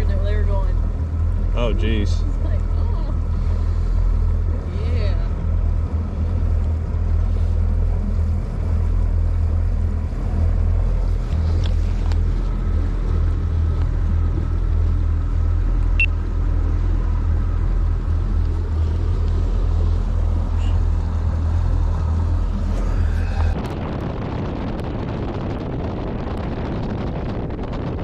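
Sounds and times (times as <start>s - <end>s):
boat motor rumbling: 0.0s - 28.0s
wind noise on microphone: 3.2s - 28.0s.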